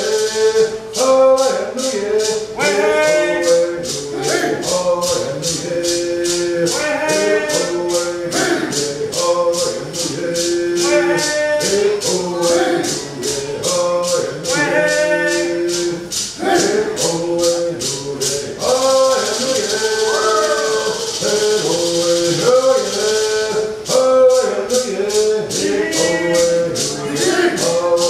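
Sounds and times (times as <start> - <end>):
hand rattle shaken on a beat: 0.0 - 28.0
voices singing: 0.0 - 28.0.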